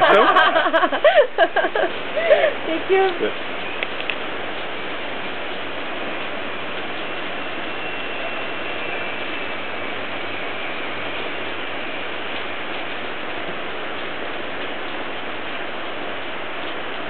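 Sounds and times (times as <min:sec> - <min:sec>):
rain on umbrellas and wooden deck: 0:00.0 - 0:17.0.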